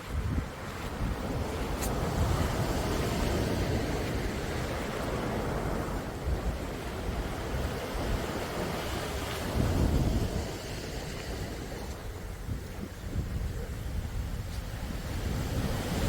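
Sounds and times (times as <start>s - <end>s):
sea waves washing onto shore: 0.0s - 16.0s
wind rumble on microphone: 0.0s - 16.0s.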